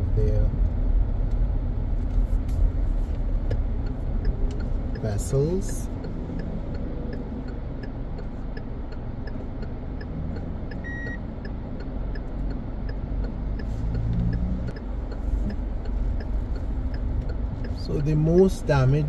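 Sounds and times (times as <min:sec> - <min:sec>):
car engine and tyre rumble: 0:00.0 - 0:19.0
turn signal ticking: 0:00.0 - 0:19.0.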